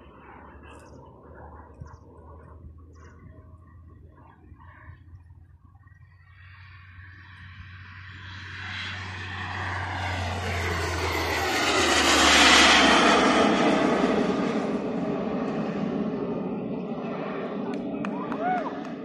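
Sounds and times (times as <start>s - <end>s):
model jet flying past: 0.0s - 19.0s.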